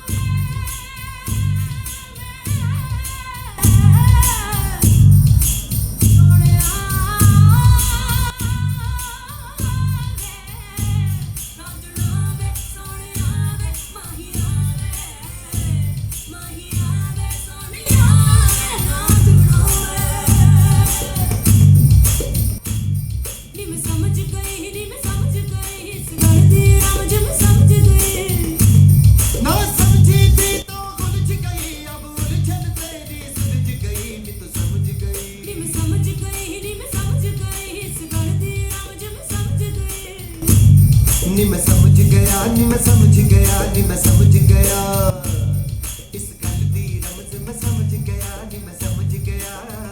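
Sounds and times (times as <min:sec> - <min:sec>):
music with bass beat: 0:00.0 - 0:49.9
tambourine-like percussion: 0:00.0 - 0:49.9
person singing: 0:06.2 - 0:21.7, 0:23.6 - 0:49.9.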